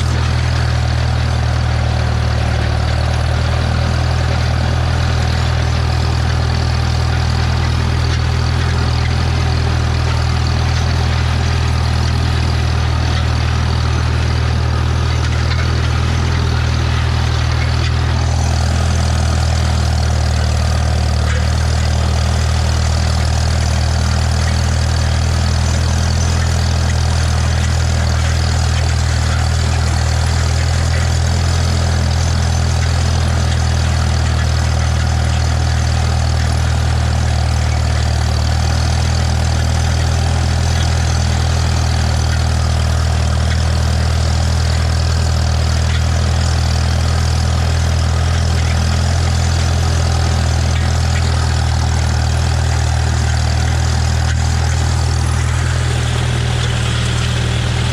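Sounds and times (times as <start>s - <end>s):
tractor engine droning: 0.0s - 57.9s.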